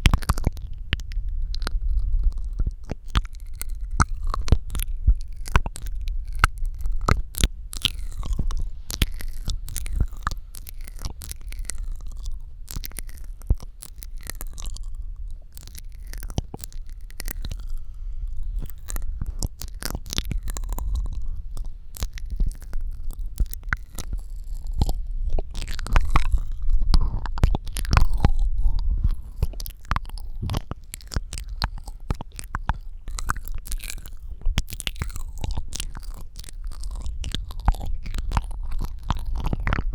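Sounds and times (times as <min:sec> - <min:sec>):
low rumble: 0:00.0 - 0:39.9
wet mouth clicks and pops: 0:00.0 - 0:39.9.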